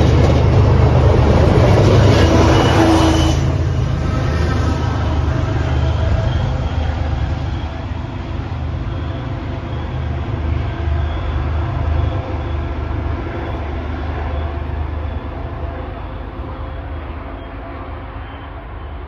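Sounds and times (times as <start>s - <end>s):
passenger train rumbling by: 0.0s - 19.0s
rail noise: 0.0s - 19.0s.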